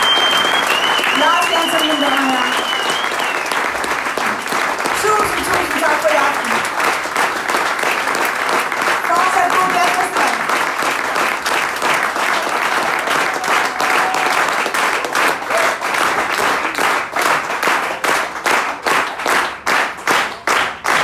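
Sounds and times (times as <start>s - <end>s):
audience applauding: 0.0s - 21.0s
rhythmic clapping in unison: 0.0s - 21.0s.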